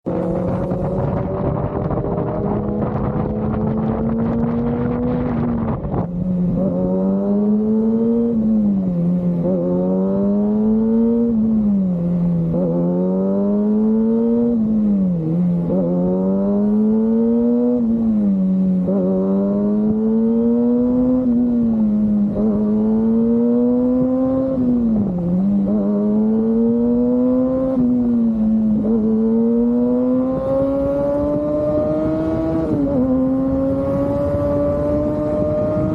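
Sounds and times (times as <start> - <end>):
motorcycle engine revving: 0.0 - 35.9
wind rushing over microphone: 0.1 - 35.9.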